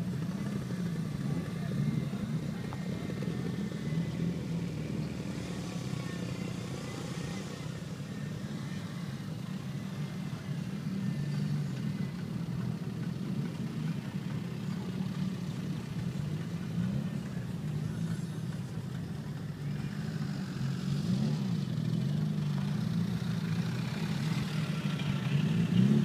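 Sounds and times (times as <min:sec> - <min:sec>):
car engines running at low revs: 0:00.0 - 0:26.0.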